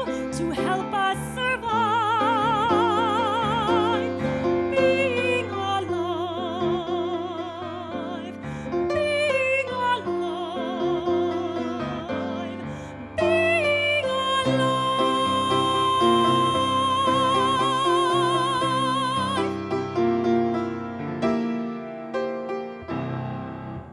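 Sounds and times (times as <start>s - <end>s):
soprano singing with vibrato: 0.0s - 19.8s
piano accompaniment: 0.0s - 23.9s.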